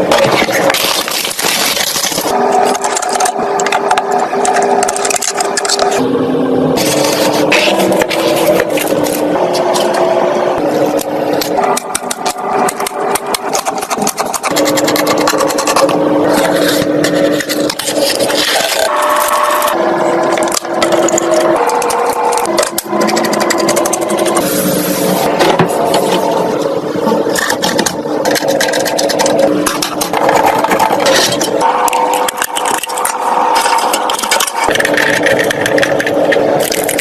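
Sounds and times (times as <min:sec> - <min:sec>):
steady hum: 0:00.0 - 0:37.0
computer parts clicking and scraping: 0:00.1 - 0:06.0, 0:10.6 - 0:26.4, 0:27.0 - 0:37.0.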